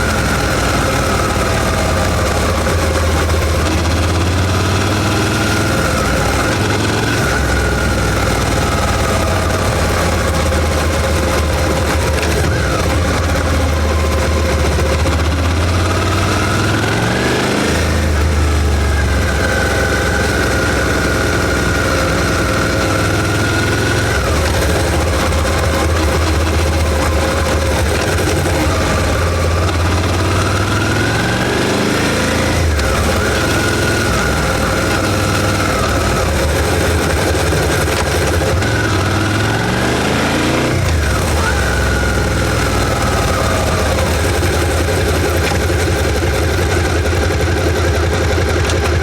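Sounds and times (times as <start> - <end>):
motorcycle engine at low speed: 0.0 - 49.0.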